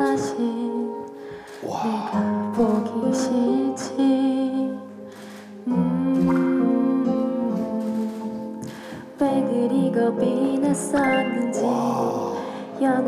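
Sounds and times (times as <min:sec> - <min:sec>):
woman singing: 0:00.0 - 0:01.2, 0:01.8 - 0:08.4, 0:09.0 - 0:13.0
guitar accompaniment: 0:00.0 - 0:13.0.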